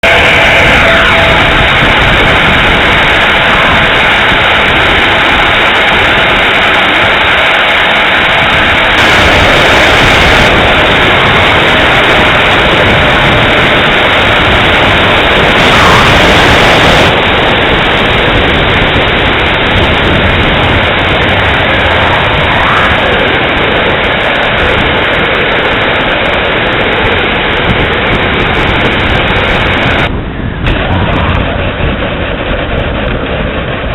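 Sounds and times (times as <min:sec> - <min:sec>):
electric ducted fans rushing: 0:00.0 - 0:33.9.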